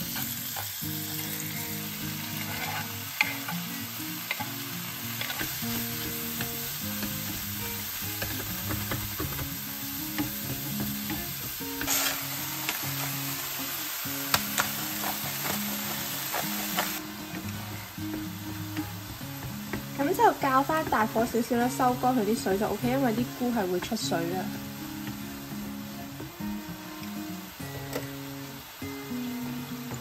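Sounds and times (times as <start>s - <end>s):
mushrooms sizzling in a pan: 0.0s - 30.0s
soft background music: 0.0s - 30.0s.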